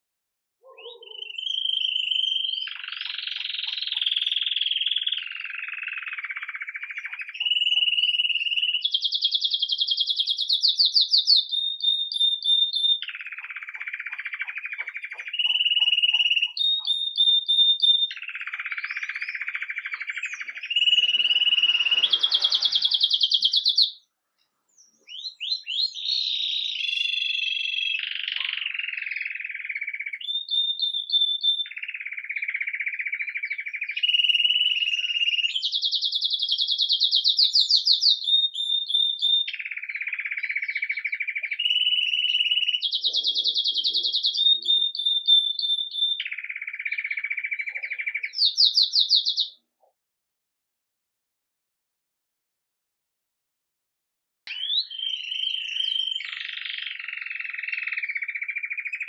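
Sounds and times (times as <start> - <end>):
canary singing trills: 0.6 - 24.1, 24.7 - 49.6, 54.5 - 59.0.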